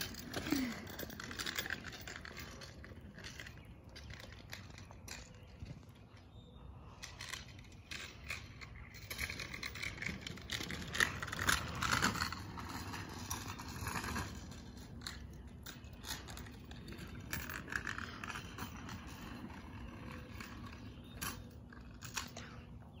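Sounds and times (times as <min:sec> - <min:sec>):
scooter wheels rolling on asphalt: 0:00.0 - 0:23.0.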